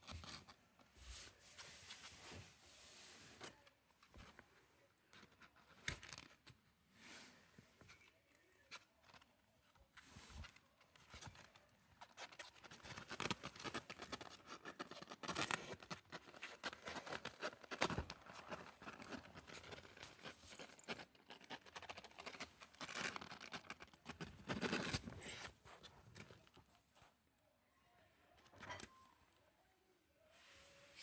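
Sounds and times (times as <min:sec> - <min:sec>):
kitten rustling and scratching: 0:00.0 - 0:27.0.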